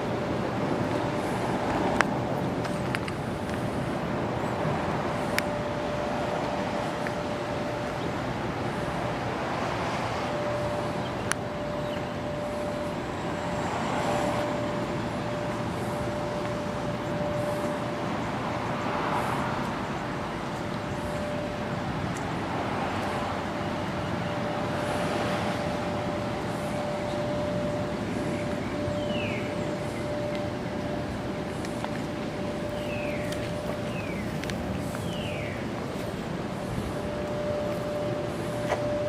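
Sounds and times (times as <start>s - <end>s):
steady traffic hum: 0.0s - 39.0s
vehicles passing: 0.0s - 39.0s.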